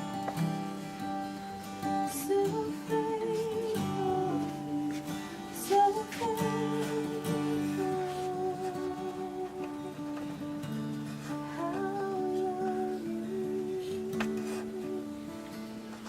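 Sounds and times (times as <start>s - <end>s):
acoustic guitar strumming: 0.0s - 16.0s
person singing: 0.0s - 16.0s.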